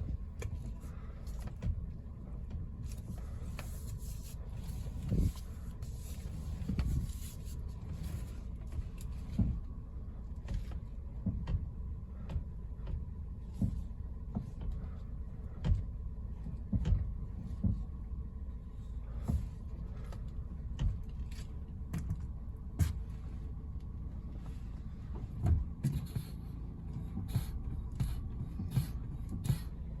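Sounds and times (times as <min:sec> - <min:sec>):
car engine rumble: 0:00.0 - 0:30.0
clicks and knocks from steering: 0:00.0 - 0:30.0.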